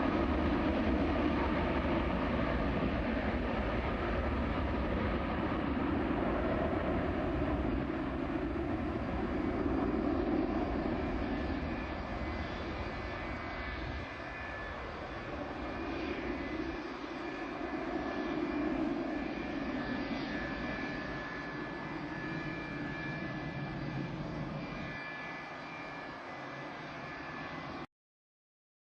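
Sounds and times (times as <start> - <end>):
jet engines roaring with whine: 0.0 - 27.9.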